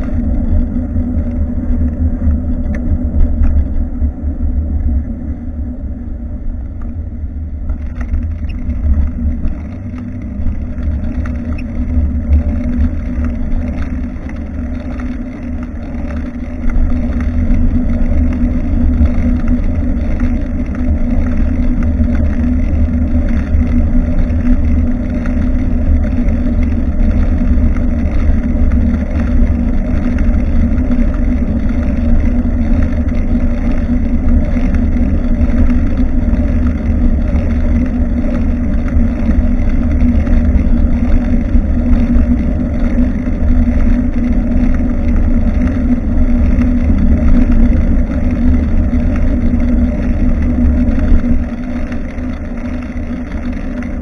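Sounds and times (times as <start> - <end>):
road vibration: 0.0 - 54.0
wind rumble on microphone: 0.0 - 54.0.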